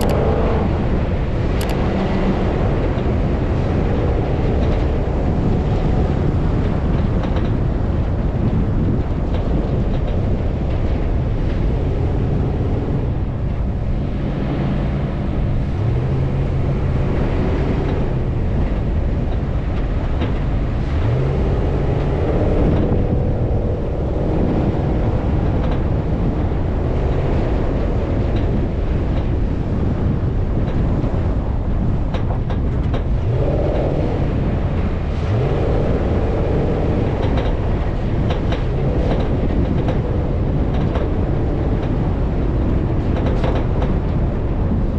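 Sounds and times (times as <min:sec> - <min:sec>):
driving rumble: 0:00.0 - 0:44.9
off-road vehicle engine revving: 0:00.0 - 0:44.9.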